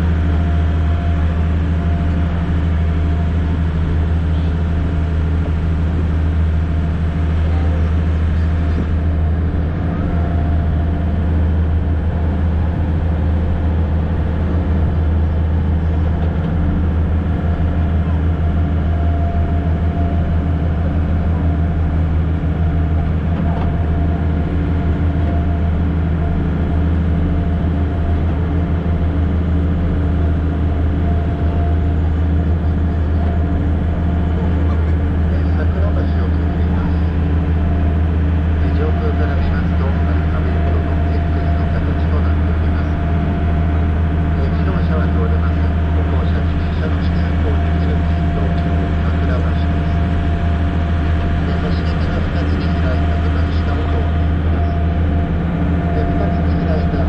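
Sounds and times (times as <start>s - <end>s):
boat engine droning: 0.0s - 57.0s
water rushing along hull: 0.0s - 57.0s.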